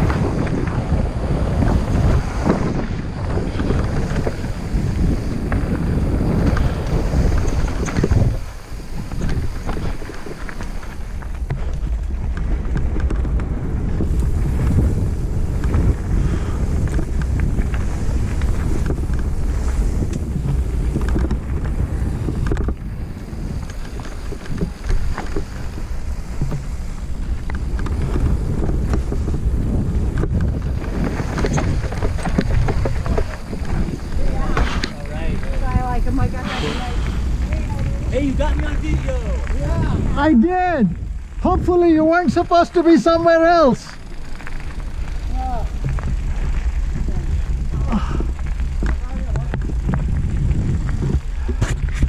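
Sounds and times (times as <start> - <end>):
bike clicks and rattles: 0.0 - 52.0
bike tyres rumbling over dirt: 0.0 - 52.0
wind buffeting microphone: 0.0 - 52.0.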